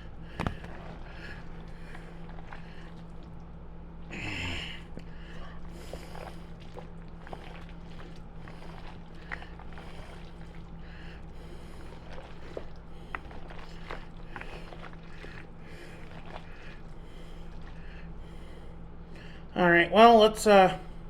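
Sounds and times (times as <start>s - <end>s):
hands squishing wet food: 0.0s - 19.5s
low hum: 0.0s - 21.0s.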